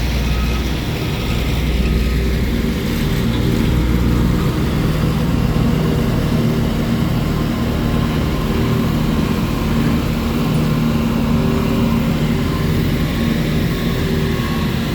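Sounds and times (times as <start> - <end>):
heavy machinery engines droning: 0.0 - 14.9.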